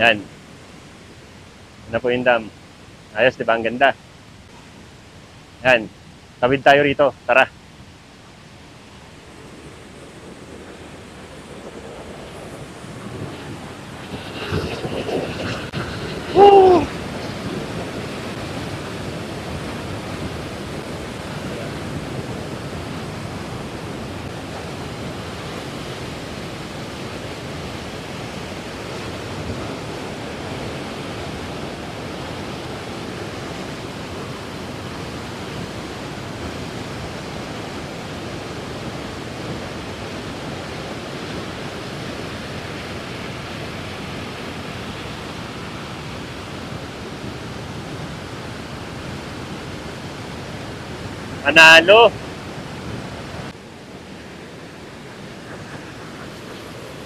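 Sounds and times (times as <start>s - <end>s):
water rushing from dam: 0.0s - 57.0s.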